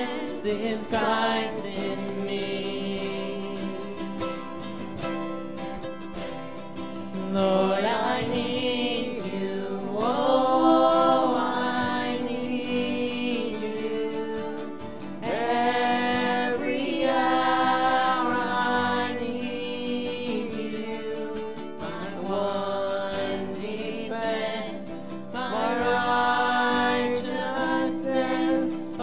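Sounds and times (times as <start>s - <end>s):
person singing: 0.0s - 4.6s, 7.1s - 29.0s
strummed acoustic guitar: 0.0s - 29.0s.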